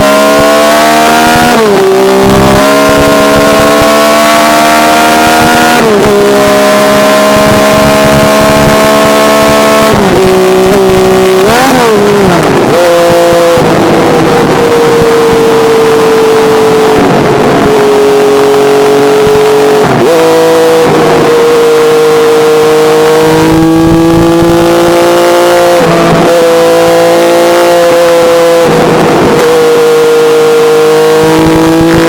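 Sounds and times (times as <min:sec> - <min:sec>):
motorcycle engine revving high: 0:00.0 - 0:32.0.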